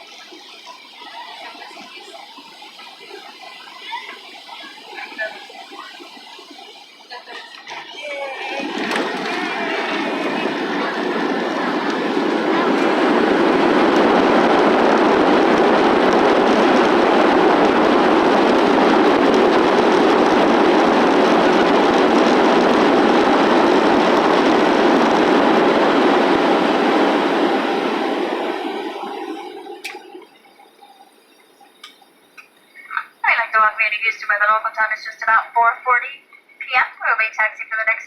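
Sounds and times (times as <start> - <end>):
wheels rolling on runway: 0.0 - 33.2
jet engines roaring: 0.0 - 38.0.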